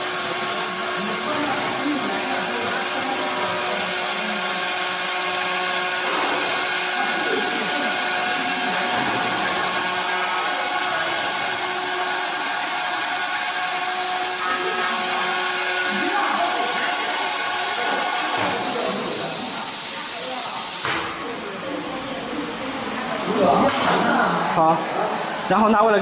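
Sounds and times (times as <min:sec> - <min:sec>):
drill bit cutting into aluminium: 0:00.0 - 0:20.8
drilling machine running: 0:00.0 - 0:24.5.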